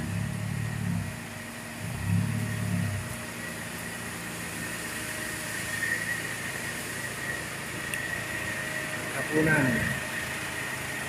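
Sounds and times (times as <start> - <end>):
bus engine idling: 0.0 - 11.0
thin high whine: 0.0 - 11.0.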